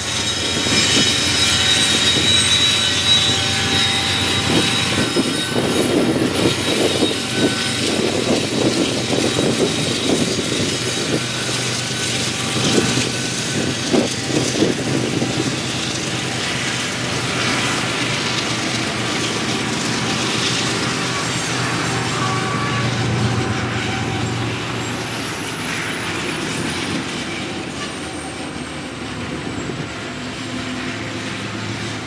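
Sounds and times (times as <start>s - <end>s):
steel wheel squeal: 0.0s - 32.0s
train cars clunking: 0.0s - 32.0s
train rolling rumble: 0.0s - 32.0s.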